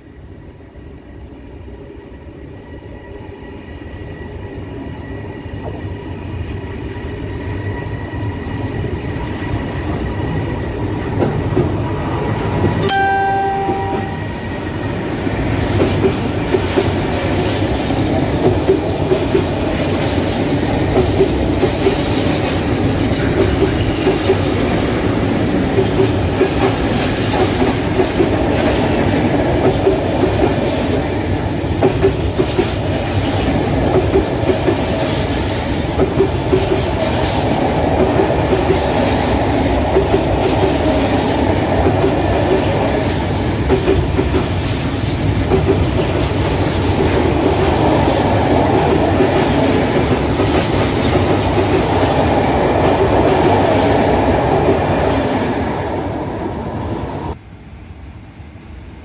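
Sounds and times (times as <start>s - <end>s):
freight train approaching: 0.0s - 59.0s
wheels clickety-clack on rail joints: 6.4s - 12.8s, 14.8s - 56.0s.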